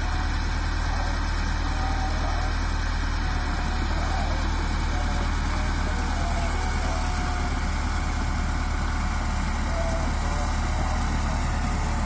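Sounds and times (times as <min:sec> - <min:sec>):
bulldozer diesel engine idling: 0:00.0 - 0:12.0.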